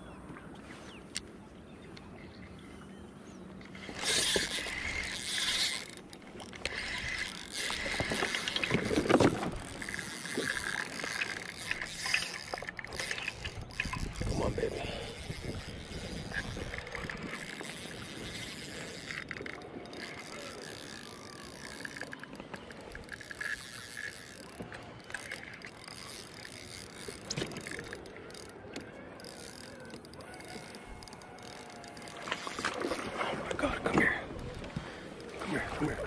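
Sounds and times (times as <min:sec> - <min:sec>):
water lapping: 0:02.0 - 0:36.0
fishing reel whirring and clicking: 0:03.5 - 0:33.6.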